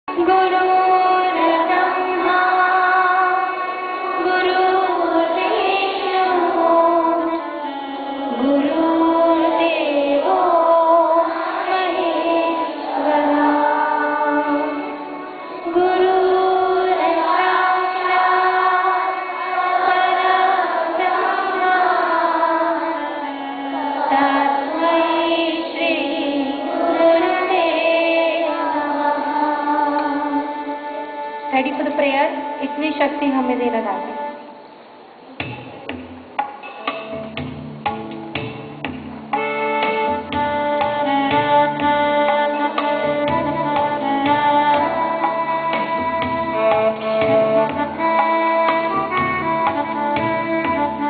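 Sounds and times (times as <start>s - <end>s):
woman singing into microphone: 0.1s - 34.6s, 40.1s - 51.0s.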